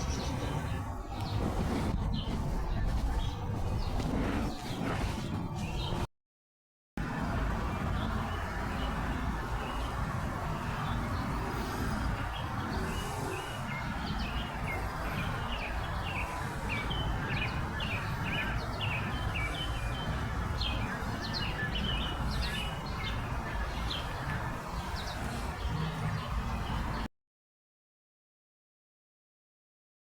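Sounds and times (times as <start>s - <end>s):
birds chirping: 0.0s - 4.9s, 7.9s - 27.1s.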